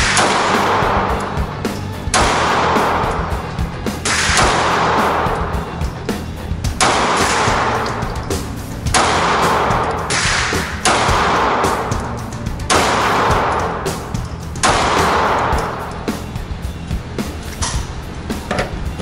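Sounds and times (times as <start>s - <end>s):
pistol shots echoing indoors: 0.0s - 16.4s
background music: 0.0s - 19.0s.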